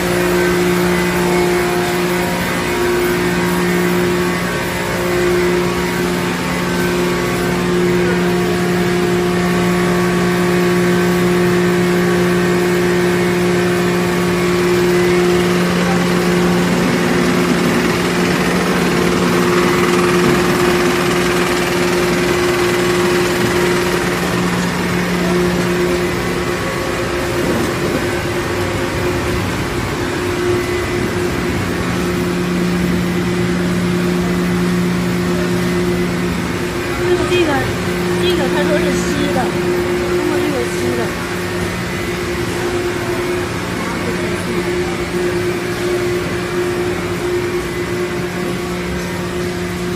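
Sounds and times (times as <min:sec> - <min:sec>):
low machine drone: 0:00.0 - 0:49.9
production line machinery humming: 0:00.0 - 0:49.9.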